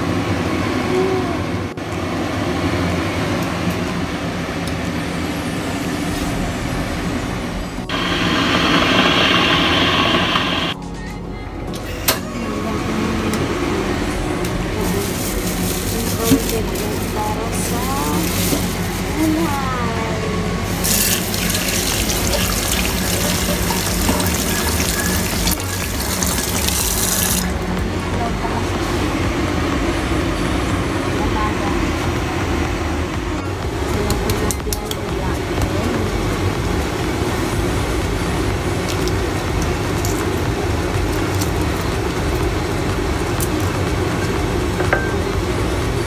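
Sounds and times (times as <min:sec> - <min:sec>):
low mechanical rumble and hum: 0:00.0 - 0:46.0.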